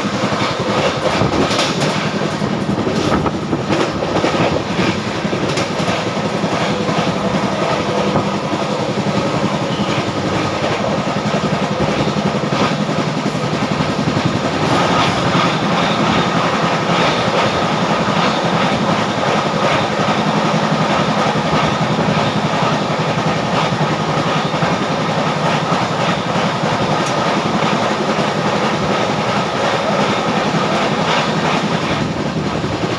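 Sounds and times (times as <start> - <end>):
rapid clicking of rail joints: 0.0 - 32.9
train wheels rumbling on rails: 0.0 - 32.9.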